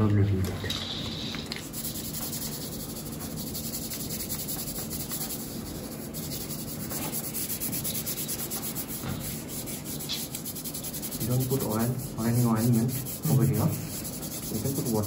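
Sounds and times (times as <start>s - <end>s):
hand rubbing tape on skin: 1.0s - 15.0s.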